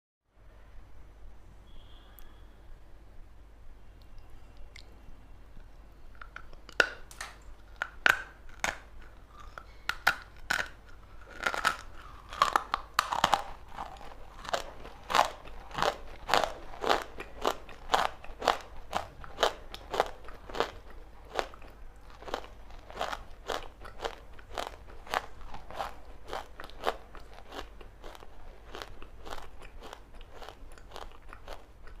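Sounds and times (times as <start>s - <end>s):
person chewing crunchy chalk: 6.2s - 32.0s.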